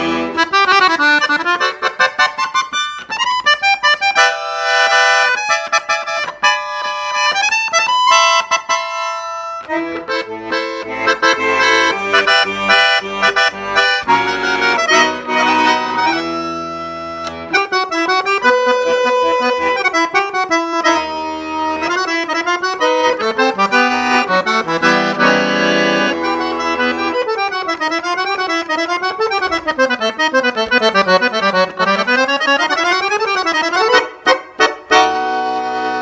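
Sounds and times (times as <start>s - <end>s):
button accordion playing: 0.0s - 36.0s.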